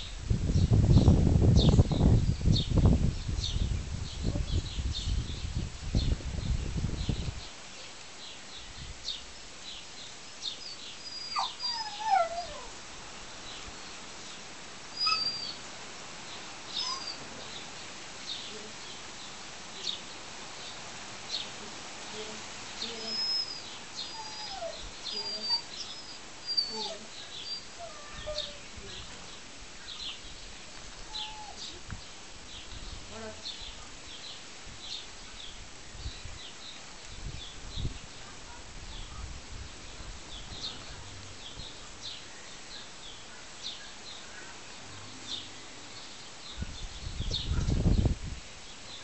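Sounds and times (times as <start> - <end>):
lower falling bird calls: 0.0 - 21.6, 22.7 - 49.0
small birds chirping: 0.0 - 49.0.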